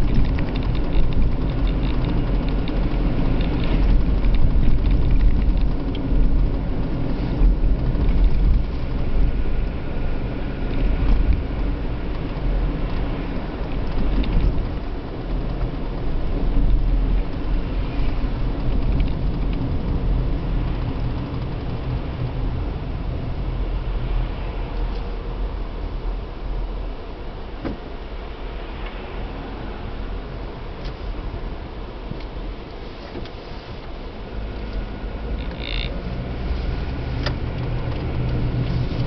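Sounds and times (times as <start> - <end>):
car engine and tyres rumbling: 0.0 - 39.0.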